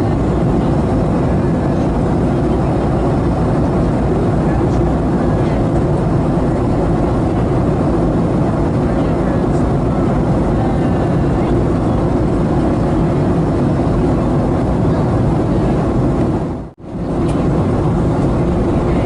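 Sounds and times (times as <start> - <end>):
aircraft engines rumbling: 0.0 - 19.0
airflow rushing past fuselage: 0.0 - 19.0.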